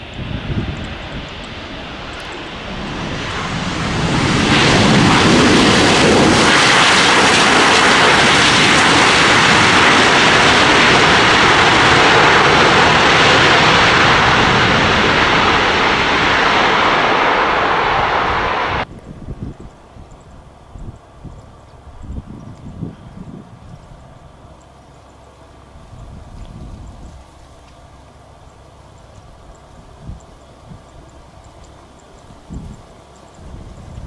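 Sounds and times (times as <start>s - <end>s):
jet engines at takeoff thrust: 0.0s - 34.0s.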